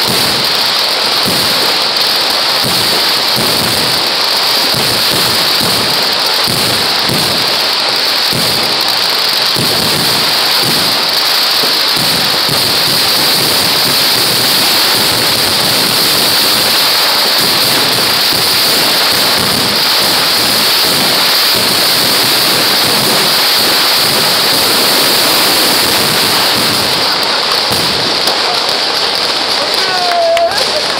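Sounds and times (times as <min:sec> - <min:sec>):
fireworks barrage: 0:00.0 - 0:30.9.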